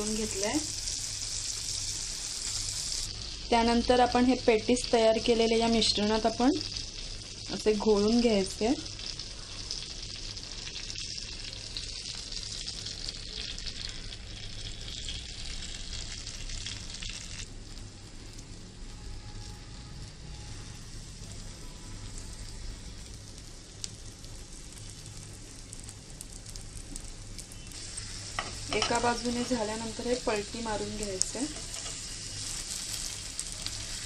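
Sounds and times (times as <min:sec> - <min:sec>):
chicken patties sizzling in butter: 0:00.0 - 0:34.0.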